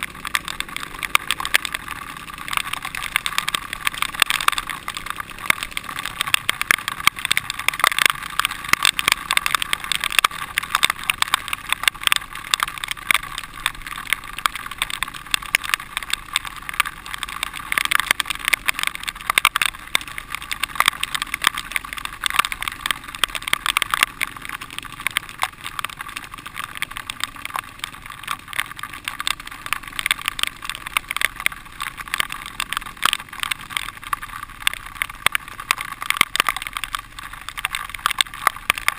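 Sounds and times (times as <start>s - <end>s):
clicks and knocks from bumps: 0.0s - 38.9s.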